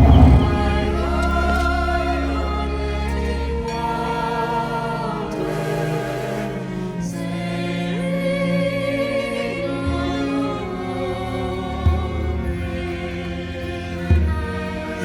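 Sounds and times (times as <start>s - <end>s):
wordless choir holding chords: 0.0s - 15.0s.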